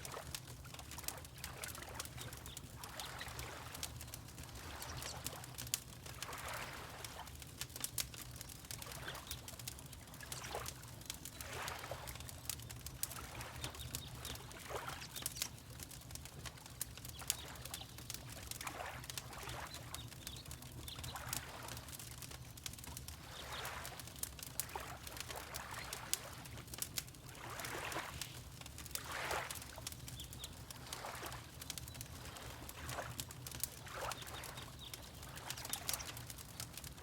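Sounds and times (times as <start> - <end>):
water lapping: 0.0 - 7.4, 8.7 - 15.4, 16.5 - 21.8, 23.1 - 37.0
wood fire crackling: 0.0 - 37.0.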